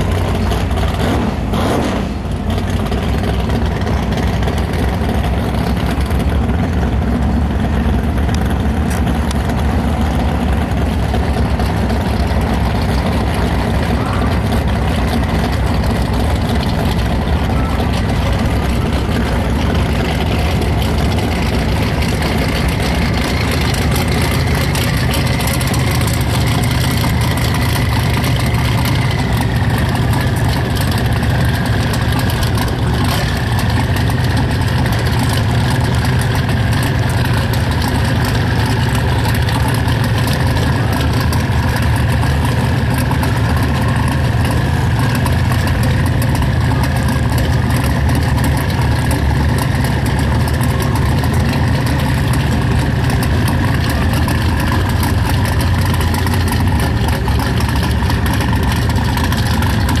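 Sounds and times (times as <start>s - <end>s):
car engine idling loudly: 0.0s - 60.0s.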